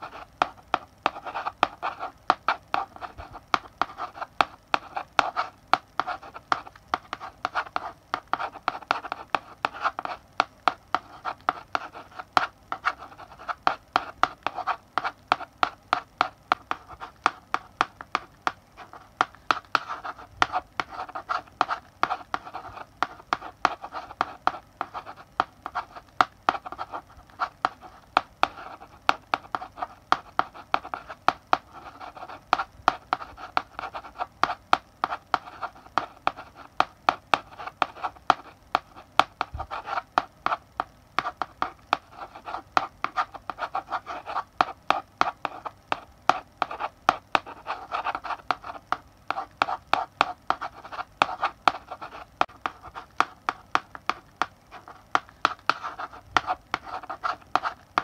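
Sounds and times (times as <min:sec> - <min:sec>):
chalk scratching on blackboard: 0:00.0 - 0:40.6, 0:41.2 - 0:58.0
chalk tapping on blackboard: 0:00.0 - 0:58.0.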